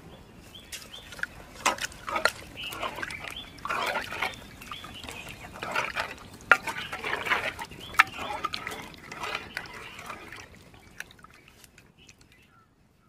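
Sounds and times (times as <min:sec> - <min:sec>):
spoon stirring thick sauce: 0:00.9 - 0:12.4.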